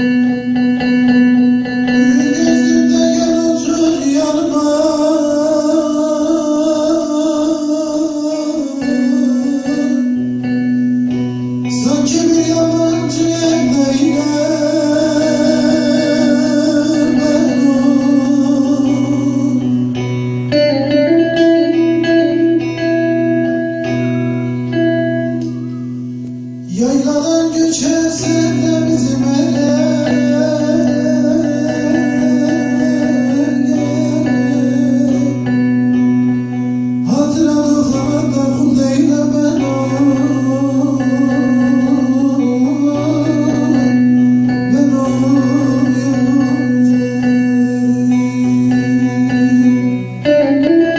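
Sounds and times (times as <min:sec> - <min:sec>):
man singing folk song: 0:00.0 - 0:11.0, 0:11.6 - 0:22.4, 0:26.7 - 0:50.9
plucked long-necked lute: 0:00.0 - 0:50.9.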